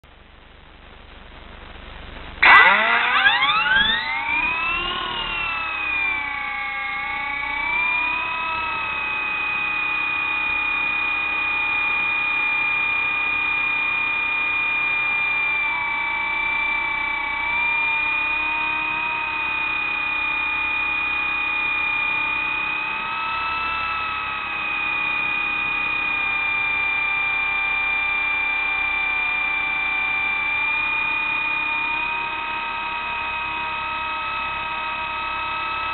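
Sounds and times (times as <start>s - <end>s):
model helicopter motor whine: 2.4s - 35.9s.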